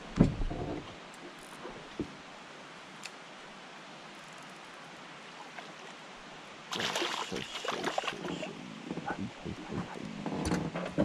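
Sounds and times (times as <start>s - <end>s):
hiss of open water and air: 0.0s - 10.7s.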